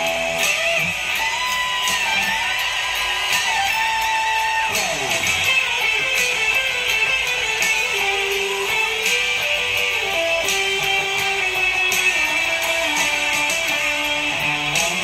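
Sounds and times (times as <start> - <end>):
electric guitar held notes: 0.0 - 15.0.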